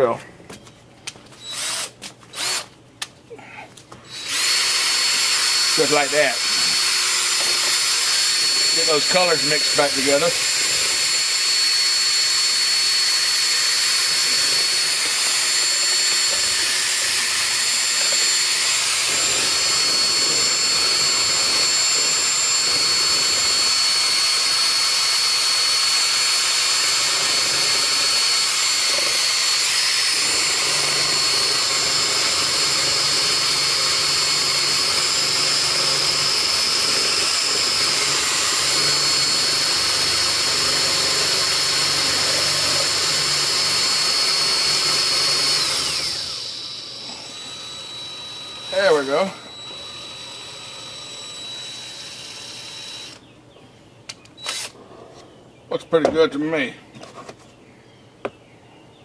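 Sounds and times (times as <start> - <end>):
electric drill whining: 1.4 - 2.7, 4.1 - 53.3, 54.3 - 54.8.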